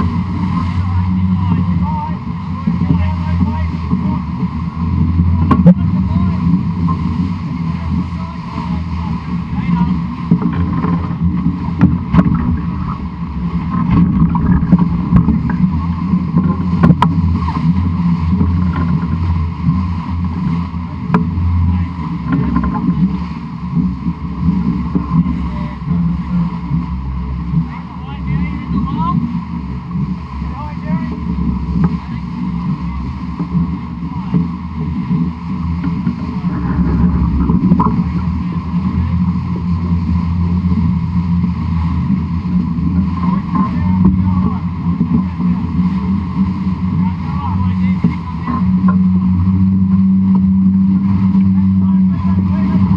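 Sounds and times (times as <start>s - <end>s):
water rushing along hull: 0.0s - 52.9s
wind rumbling on microphone: 0.0s - 52.9s.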